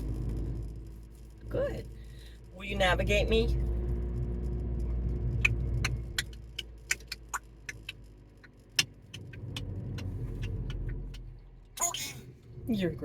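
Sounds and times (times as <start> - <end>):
sharp clicks and ticks: 0.0 - 11.5
car engine rumble inside cabin: 0.0 - 13.0.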